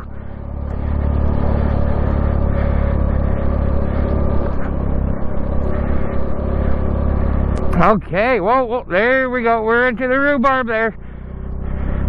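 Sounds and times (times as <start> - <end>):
small engine pulling steadily: 0.0 - 12.0.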